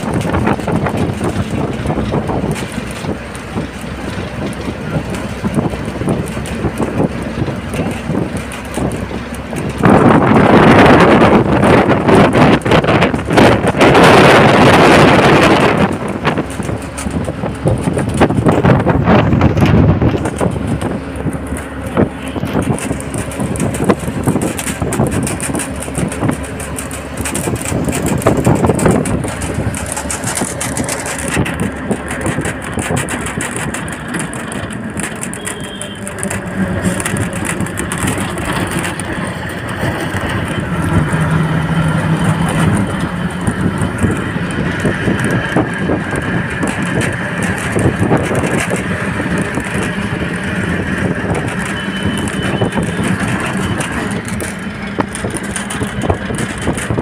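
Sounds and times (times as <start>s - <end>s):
bus body rattling: 0.0s - 57.0s
bus engine running: 0.0s - 57.0s
road and wind noise: 0.0s - 57.0s.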